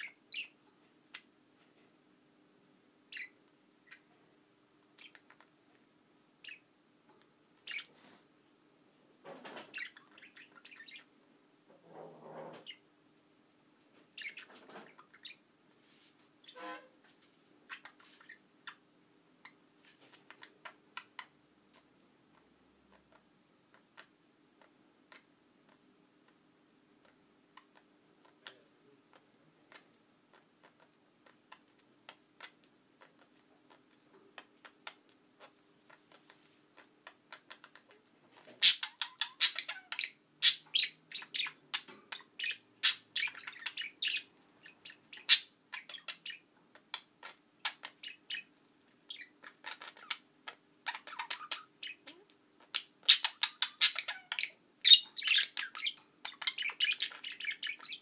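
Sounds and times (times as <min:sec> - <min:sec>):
budgerigars chirping and clicking: 0:00.0 - 0:01.3, 0:03.1 - 0:04.1, 0:05.0 - 0:05.5, 0:06.4 - 0:08.0, 0:09.4 - 0:11.1, 0:12.5 - 0:12.8, 0:14.1 - 0:15.4, 0:17.7 - 0:18.8, 0:19.4 - 0:26.4, 0:27.0 - 0:58.0.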